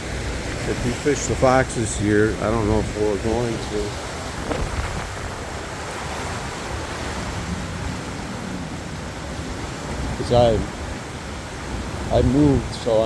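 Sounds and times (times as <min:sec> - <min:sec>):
water crashing over dam spillway: 0:00.0 - 0:13.0.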